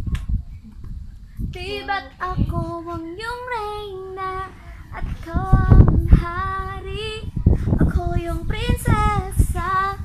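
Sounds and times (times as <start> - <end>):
wind noise on microphone: 0.0 - 10.0
woman singing: 1.4 - 10.0.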